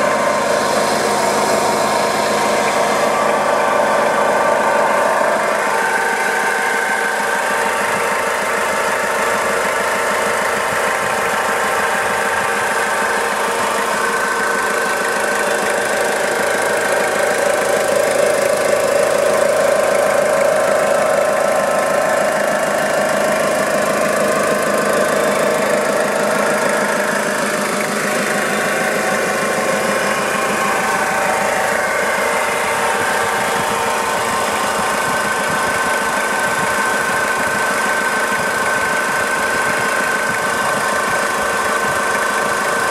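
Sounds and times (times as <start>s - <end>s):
diesel engine idling: 0.0s - 42.9s
high steady whine: 0.0s - 42.9s.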